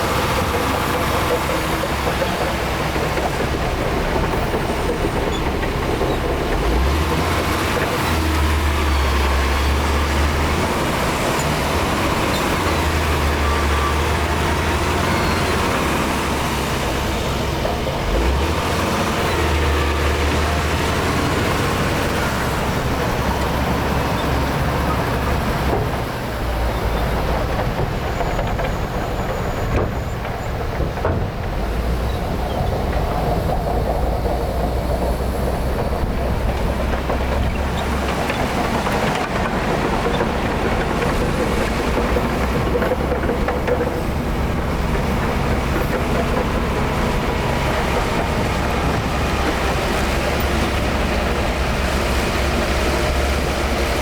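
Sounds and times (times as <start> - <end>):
bulldozer clatter: 0.0 - 54.0
bulldozer diesel engine rumbling: 0.0 - 54.0.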